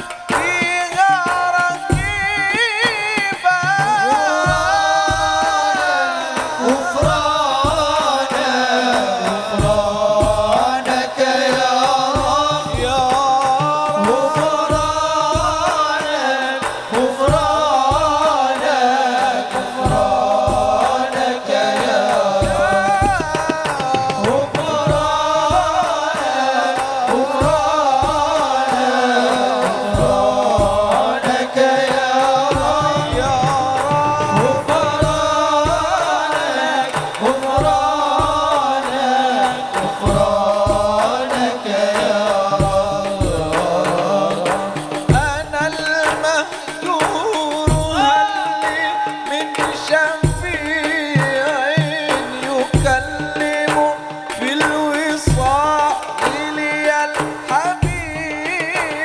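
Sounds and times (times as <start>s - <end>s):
hand drums beating: 0.0s - 59.0s
man singing devotional song: 0.0s - 59.0s.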